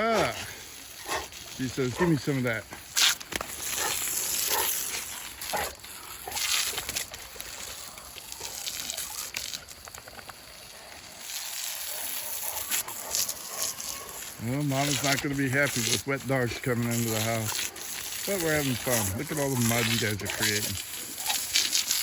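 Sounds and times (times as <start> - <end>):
water splashing on muddy ground: 0.0 - 22.0.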